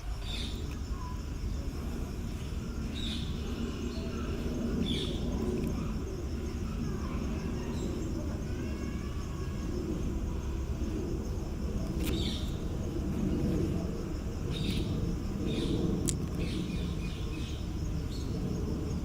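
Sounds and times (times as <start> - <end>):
faint insect buzz: 0.0 - 19.0.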